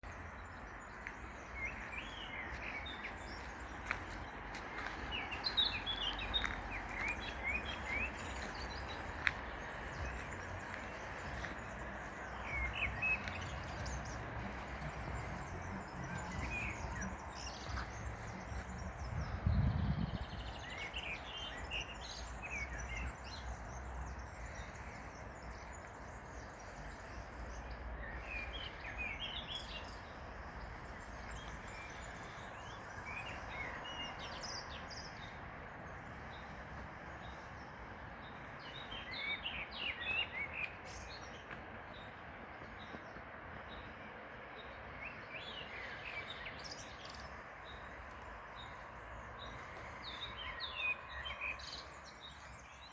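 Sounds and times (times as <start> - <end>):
small birds chirping: 0.0 - 52.9
river flowing: 0.1 - 19.0, 23.8 - 52.9.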